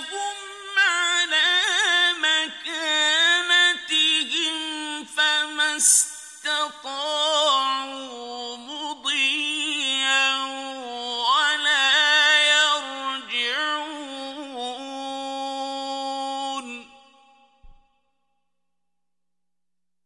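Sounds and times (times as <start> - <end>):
man chanting melodically: 0.0 - 17.5.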